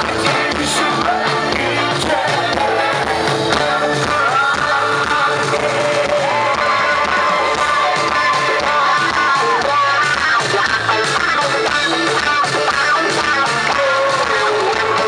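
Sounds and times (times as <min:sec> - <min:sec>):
live band music with singer: 0:00.0 - 0:15.0.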